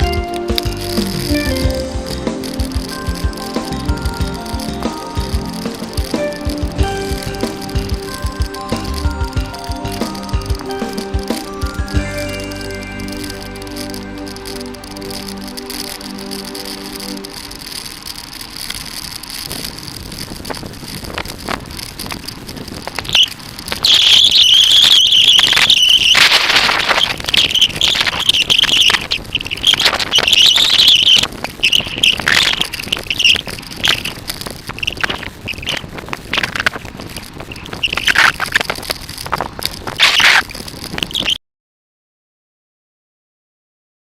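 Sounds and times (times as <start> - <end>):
bicycle brakes squealing: 0.0 - 41.4
tyre and road noise: 0.0 - 41.4.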